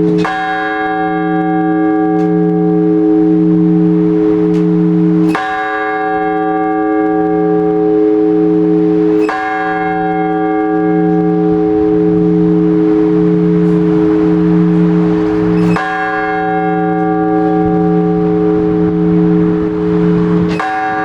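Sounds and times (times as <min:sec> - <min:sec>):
large church bell tolling: 0:00.0 - 0:21.0.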